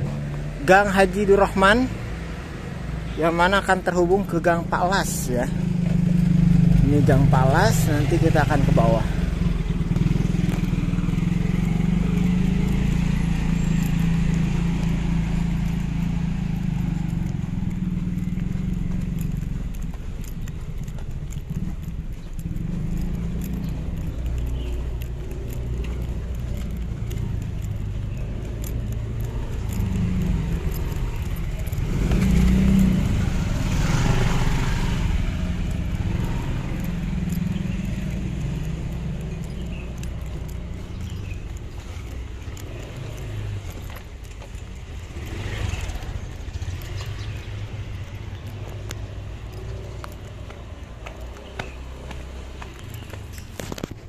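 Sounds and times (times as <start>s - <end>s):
footsteps on concrete: 0.0s - 54.0s
motor scooter engine hum: 0.0s - 54.0s
street noise: 0.0s - 54.0s.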